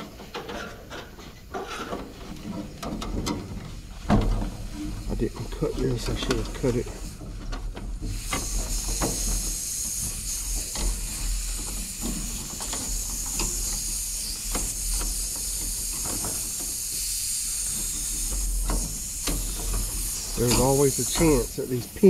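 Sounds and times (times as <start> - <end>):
refrigerant hissing from valve: 3.4 - 22.0.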